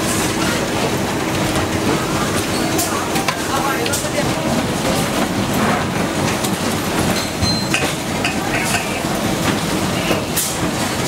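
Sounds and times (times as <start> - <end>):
factory machines din: 0.0 - 11.0.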